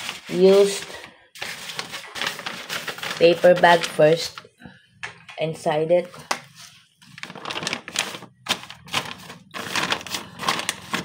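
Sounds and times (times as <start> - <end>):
paper bag rustling and crinkling: 0.0 - 4.4, 6.5 - 11.0.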